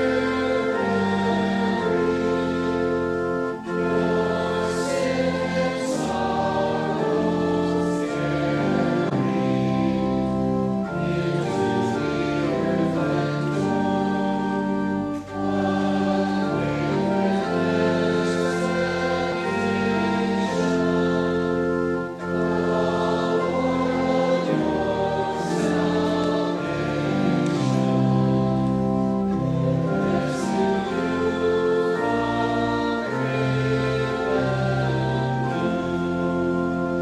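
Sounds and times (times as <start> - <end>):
congregation singing a hymn: 0.0 - 37.0
organ chords: 0.0 - 37.0.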